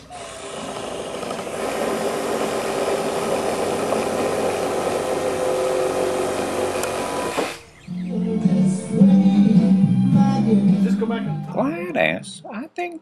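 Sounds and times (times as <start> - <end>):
motor running: 0.0 - 11.3.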